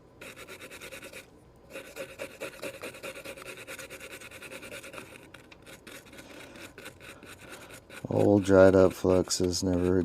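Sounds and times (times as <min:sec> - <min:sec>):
brush scrubbing circuit board: 0:00.2 - 0:10.0.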